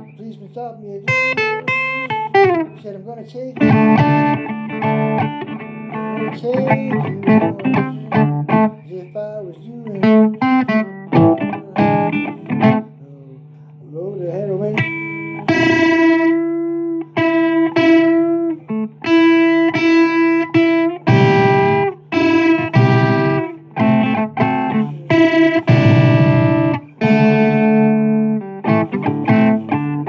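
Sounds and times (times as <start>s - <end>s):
blues guitar playing held notes: 0.0s - 13.5s, 14.2s - 30.0s.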